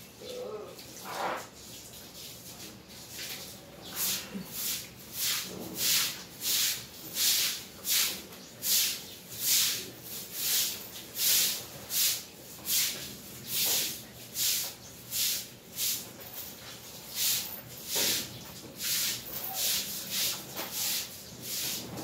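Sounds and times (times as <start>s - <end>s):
broom sweeping wet concrete: 0.6s - 22.0s.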